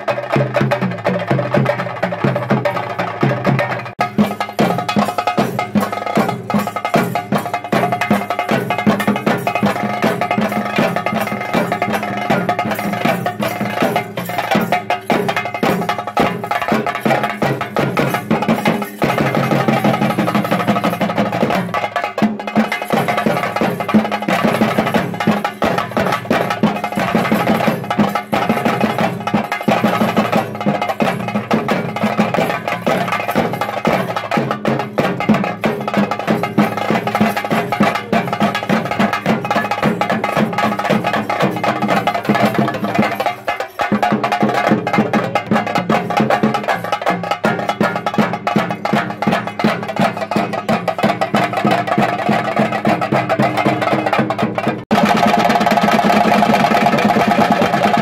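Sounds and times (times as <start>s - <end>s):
fast stick drumming: 0.0s - 58.0s.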